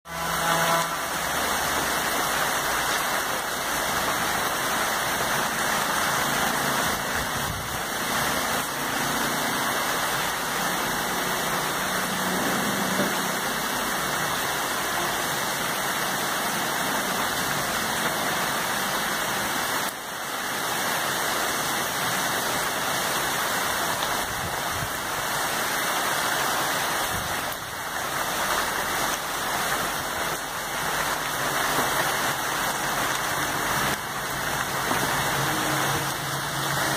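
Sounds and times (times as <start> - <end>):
heavy rain on foliage: 0.0 - 36.9.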